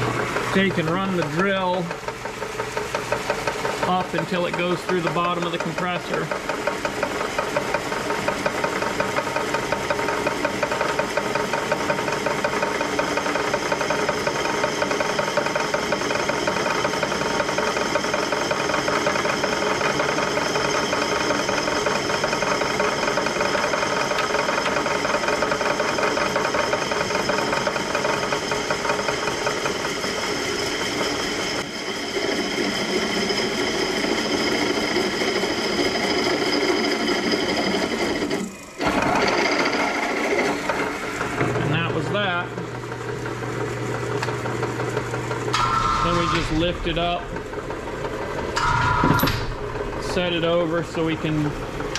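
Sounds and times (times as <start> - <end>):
drill press boring steel: 0.0 - 51.9.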